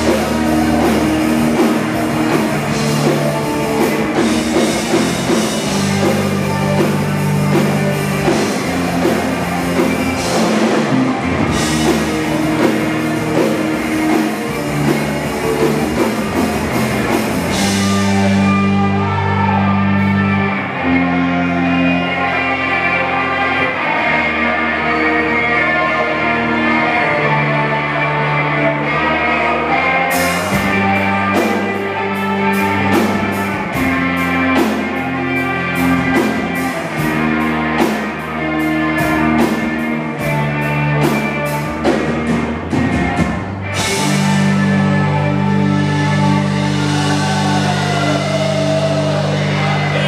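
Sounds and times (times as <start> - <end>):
drum kit: 0.0 - 20.5, 29.9 - 50.0
electric guitars playing heavy chords: 0.0 - 50.0.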